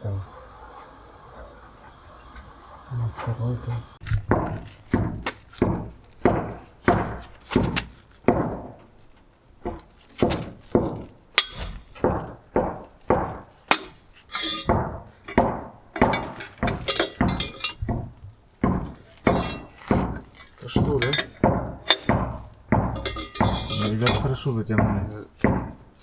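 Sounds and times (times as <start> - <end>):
hammering knocks: 4.0 - 26.0.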